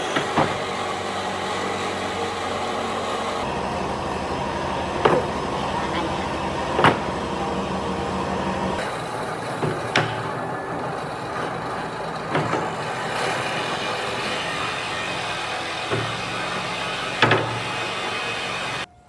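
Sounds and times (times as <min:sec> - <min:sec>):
motor running: 0:00.0 - 0:18.9.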